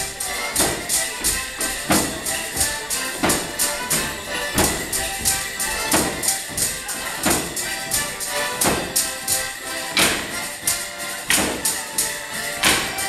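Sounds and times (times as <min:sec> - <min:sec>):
dancers' percussive strikes: 0:00.0 - 0:13.0
folk dance tune: 0:00.0 - 0:13.0.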